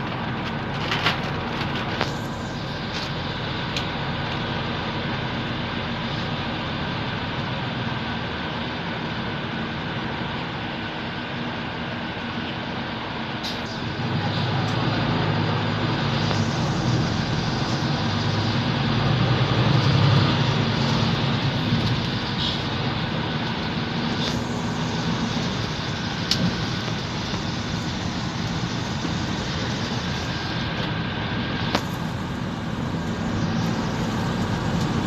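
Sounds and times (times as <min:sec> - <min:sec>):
bus engine running: 0:00.0 - 0:35.0
road noise: 0:00.0 - 0:35.0.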